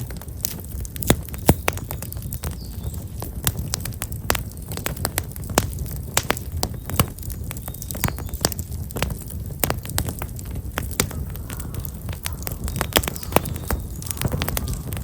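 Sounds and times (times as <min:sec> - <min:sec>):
campfire crackling: 0:00.0 - 0:15.0
low rumble of flames: 0:00.0 - 0:15.0.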